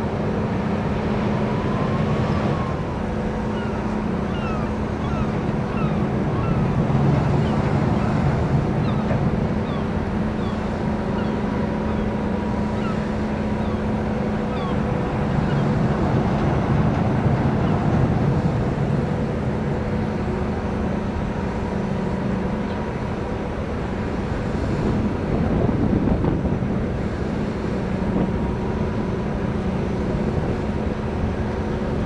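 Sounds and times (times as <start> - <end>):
ship engines droning: 0.0 - 32.0.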